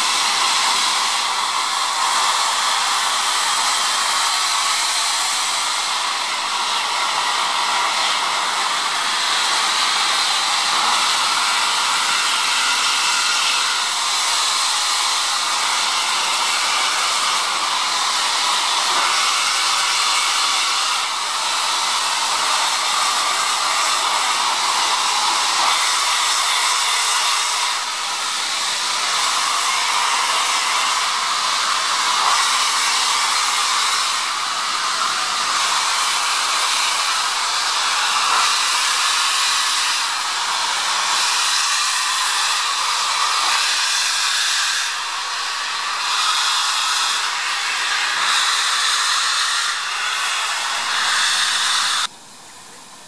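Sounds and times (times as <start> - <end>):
steam hissing from locomotive: 0.0 - 53.0.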